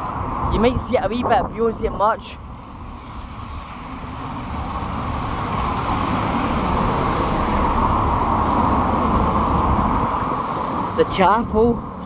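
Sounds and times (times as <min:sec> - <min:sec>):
vehicle approaching on wet road: 0:02.2 - 0:12.0.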